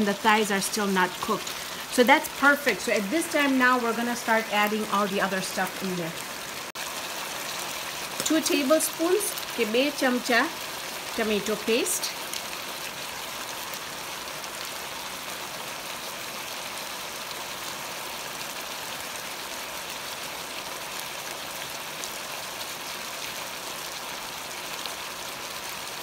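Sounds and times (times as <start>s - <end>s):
gravy sizzling and bubbling: 0.0s - 26.0s.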